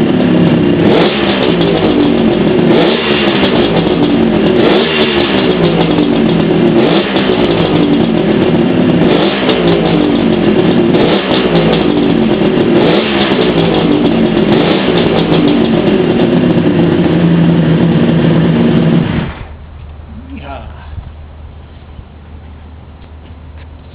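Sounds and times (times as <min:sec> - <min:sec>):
two-stroke engine revving: 0:00.0 - 0:19.6.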